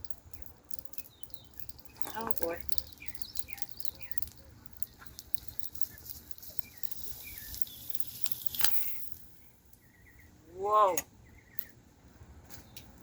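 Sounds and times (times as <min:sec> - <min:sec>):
sharp crackling clicks: 0:00.0 - 0:10.0, 0:11.0 - 0:11.8
small birds chirping: 0:00.0 - 0:13.0.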